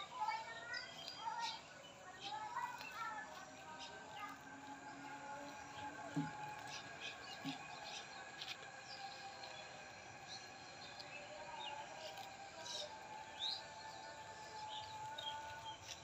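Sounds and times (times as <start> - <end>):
birds chirping: 0.0 - 16.0
faint background drone: 0.0 - 16.0.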